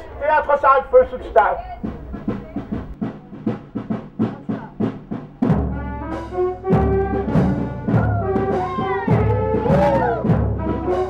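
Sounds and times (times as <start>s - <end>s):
brass instruments holding notes: 0.0s - 11.0s
drum beating: 0.0s - 11.0s.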